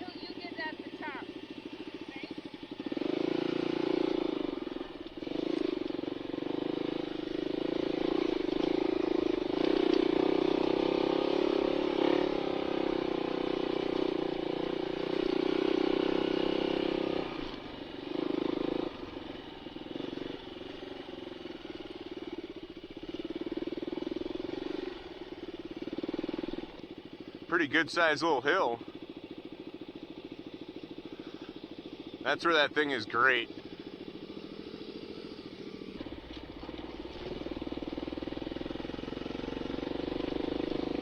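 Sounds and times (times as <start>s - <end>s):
dirt bike engine revving: 0.0s - 22.4s, 23.0s - 41.0s.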